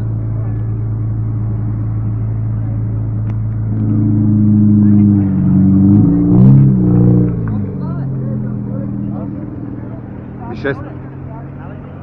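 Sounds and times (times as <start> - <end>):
car engine idling: 0.0 - 12.0
higher engine note: 0.0 - 12.0.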